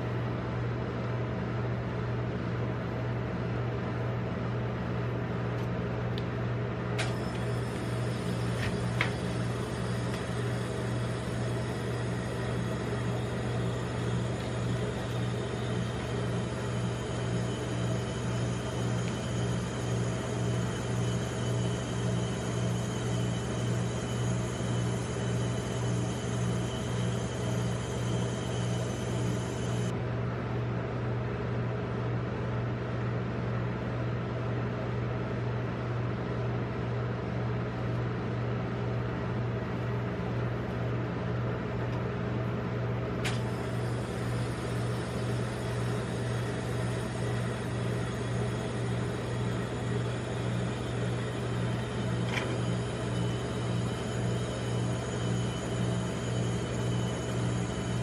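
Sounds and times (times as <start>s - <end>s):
refrigeration unit humming: 0.0s - 58.0s.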